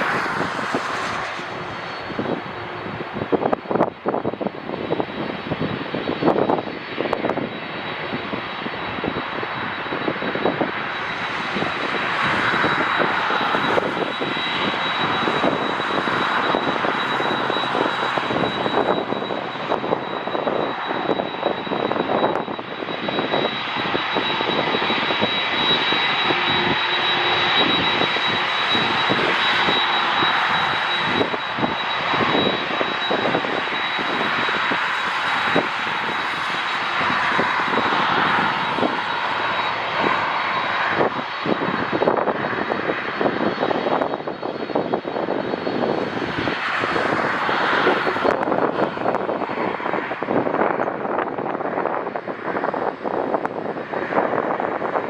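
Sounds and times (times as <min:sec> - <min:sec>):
jet engines whining: 0:00.0 - 0:55.0
wind buffeting microphone: 0:00.0 - 0:55.0.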